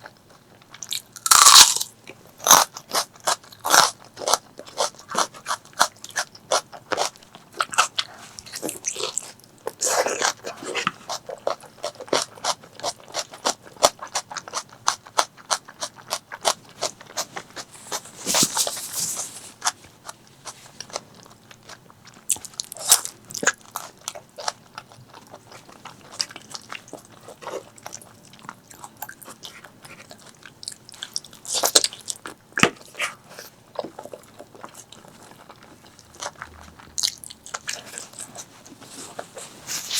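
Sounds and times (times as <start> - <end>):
chewing with wet mouth clicks: 0.0 - 18.0, 19.6 - 39.5.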